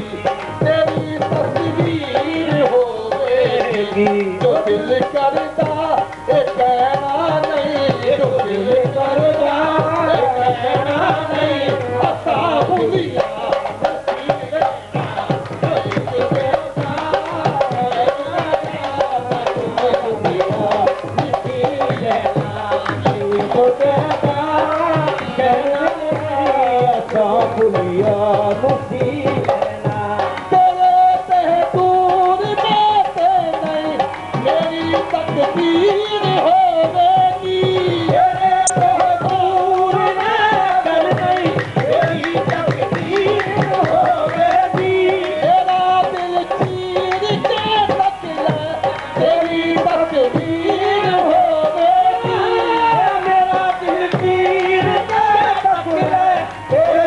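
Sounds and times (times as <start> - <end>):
harmoniums: 0.0 - 57.0
tabla rhythm: 0.0 - 57.0
voices singing: 0.0 - 57.0.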